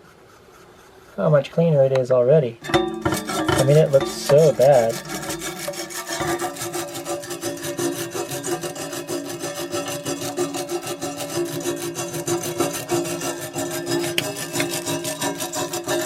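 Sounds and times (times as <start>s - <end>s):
steady hum: 1.0s - 16.0s
brush scrubbing saw blade: 2.6s - 16.0s.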